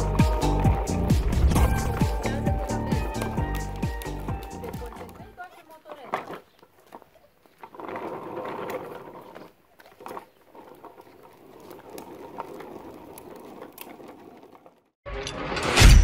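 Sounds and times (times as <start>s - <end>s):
plastic wheels rolling over asphalt: 0.0s - 15.0s.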